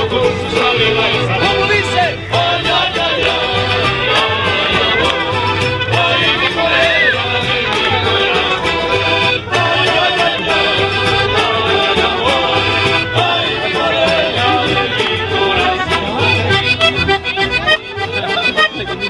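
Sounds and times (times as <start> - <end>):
accordion: 0.0 - 19.0
pulsing bass beat: 0.0 - 19.0
strummed guitars: 0.0 - 19.0.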